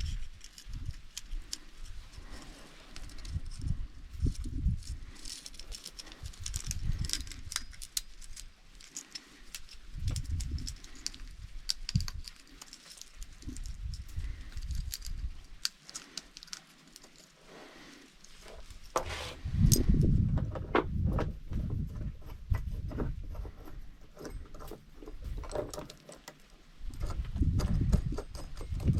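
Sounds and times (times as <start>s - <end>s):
chainsaw parts clicking and scraping: 0.0s - 28.9s.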